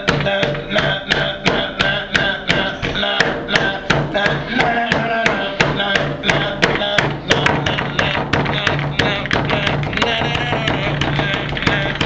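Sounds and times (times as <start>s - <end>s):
music with pounding beat: 0.0s - 12.0s.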